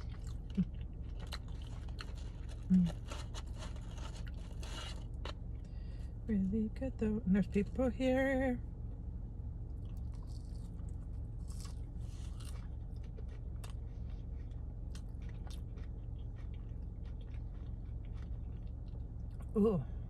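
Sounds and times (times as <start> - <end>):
person chewing fries: 0.0 - 6.2, 9.6 - 20.0
steady low hum: 0.0 - 20.0.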